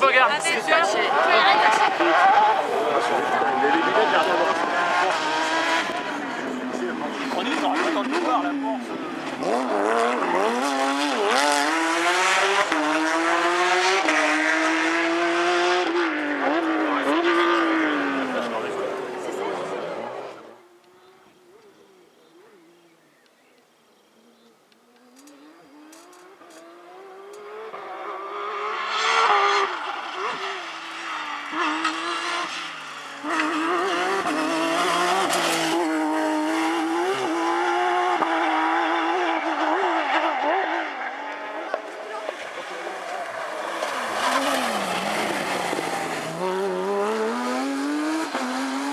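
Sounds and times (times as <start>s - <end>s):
rally car engine at full throttle: 0.0s - 22.2s, 25.0s - 48.9s.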